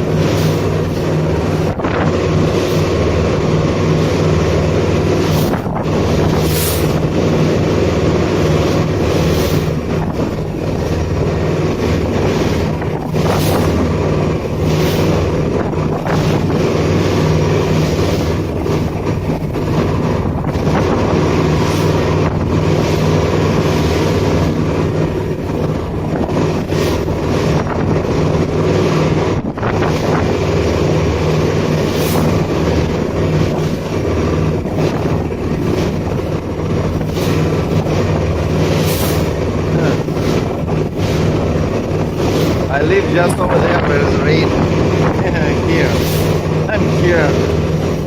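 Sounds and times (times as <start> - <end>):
boat engine running: 0.0 - 48.0
wind buffeting microphone: 0.0 - 48.0.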